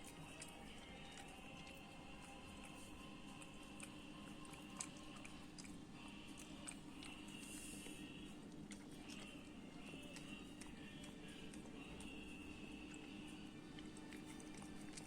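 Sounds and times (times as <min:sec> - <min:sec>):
cat chewing and smacking: 0:00.0 - 0:15.0.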